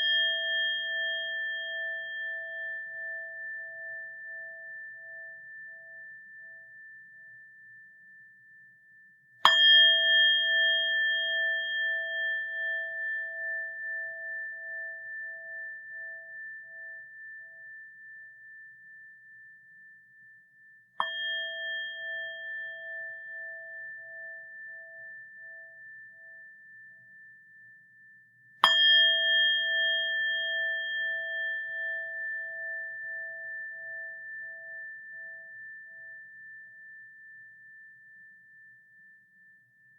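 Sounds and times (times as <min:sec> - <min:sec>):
bowl bell ringing: 0:00.0 - 0:08.3, 0:09.4 - 0:39.4.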